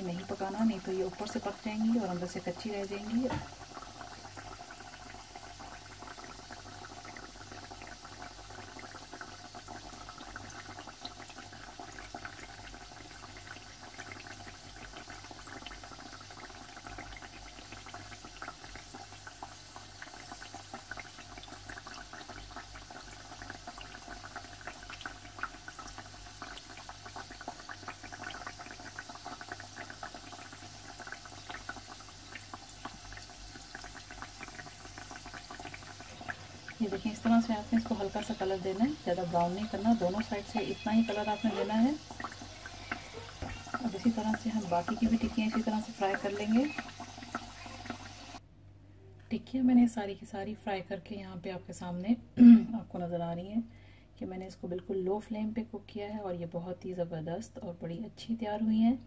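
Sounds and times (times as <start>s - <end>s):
dough sizzling in oil: 0.0s - 48.4s.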